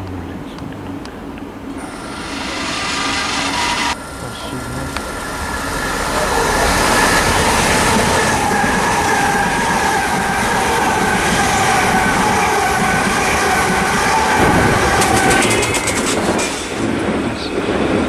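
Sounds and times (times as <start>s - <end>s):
electric trains rumbling past: 0.2s - 18.0s
high-pitched train whine: 1.6s - 18.0s.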